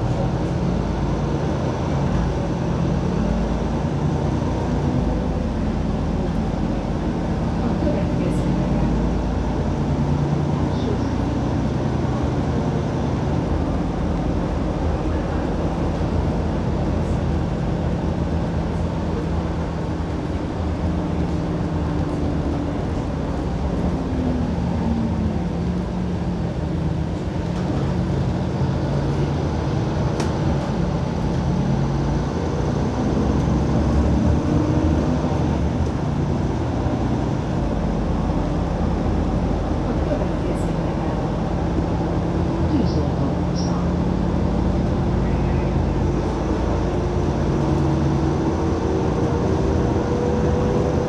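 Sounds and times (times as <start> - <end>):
bus engine and road noise: 0.0 - 51.0.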